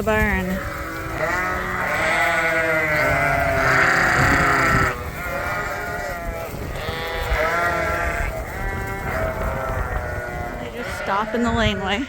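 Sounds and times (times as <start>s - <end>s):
sheep bleating: 0.5s - 12.0s.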